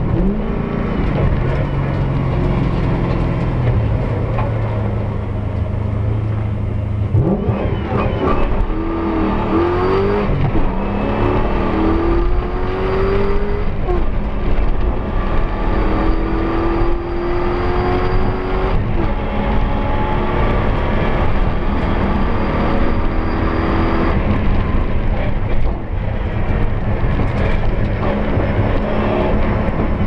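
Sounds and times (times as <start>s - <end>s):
car engine accelerating: 0.0s - 30.0s
road rumble on dirt: 0.0s - 30.0s.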